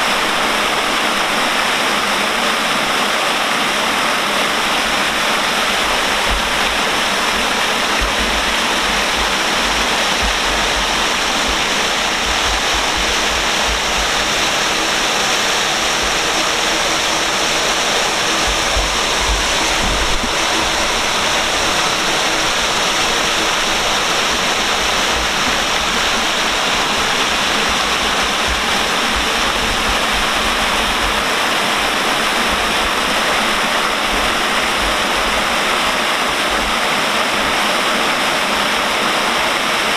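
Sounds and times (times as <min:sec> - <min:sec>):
water falling into canal: 0:00.0 - 0:39.9.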